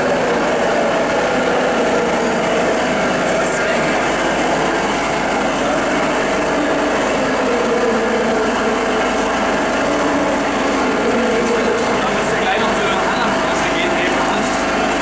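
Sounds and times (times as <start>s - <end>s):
loud engine drone: 0.0s - 15.0s.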